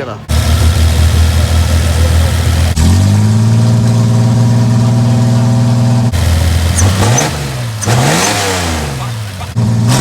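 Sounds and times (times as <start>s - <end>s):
car engine revving: 0.3s - 10.0s.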